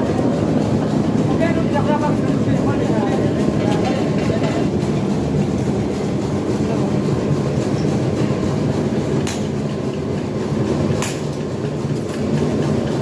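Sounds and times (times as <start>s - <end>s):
workshop machinery rumbling: 0.0s - 13.0s.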